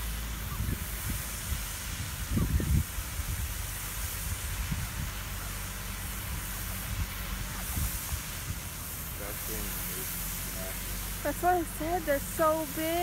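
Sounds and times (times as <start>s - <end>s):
fountain water spraying: 0.0s - 13.0s
wind rumbling on microphone: 0.0s - 13.0s.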